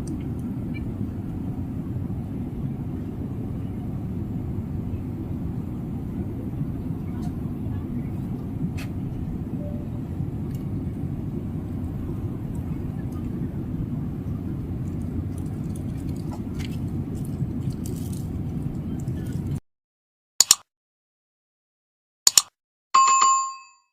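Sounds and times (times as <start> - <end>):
airliner cabin rumble: 0.0 - 19.6.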